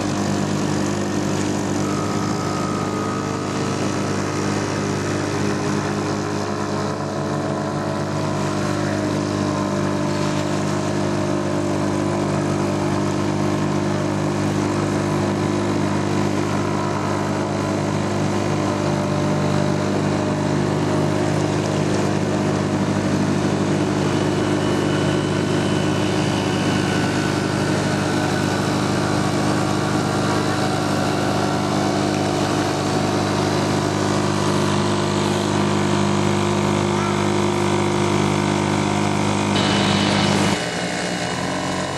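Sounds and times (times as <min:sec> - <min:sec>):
outboard motor running: 0:00.0 - 0:41.9.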